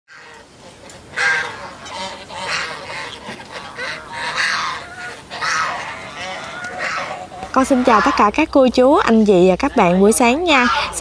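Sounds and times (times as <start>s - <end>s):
poultry calling: 0.1s - 11.0s.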